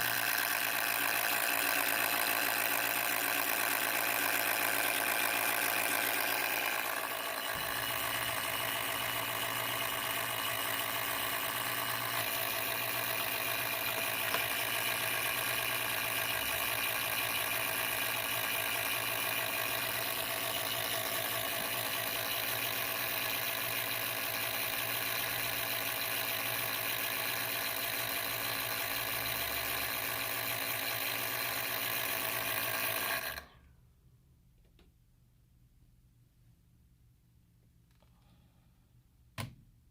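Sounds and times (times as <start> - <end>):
laptop cooling fan whirring: 0.0 - 33.5.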